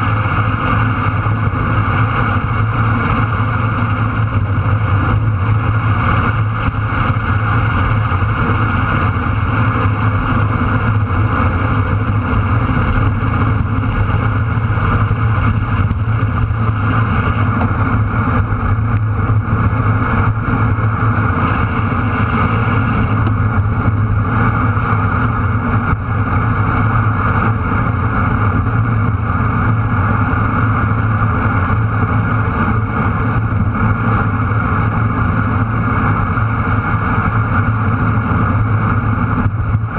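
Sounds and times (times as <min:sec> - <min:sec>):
tyres humming on asphalt: 0:00.0 - 0:39.9
wind buffeting microphone: 0:00.0 - 0:39.9.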